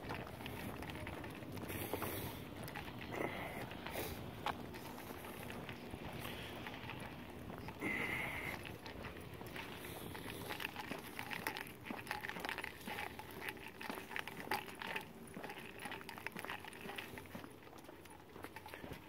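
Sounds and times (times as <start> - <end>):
faint steady hum: 0.0 - 19.0
footsteps on concrete: 0.0 - 19.0.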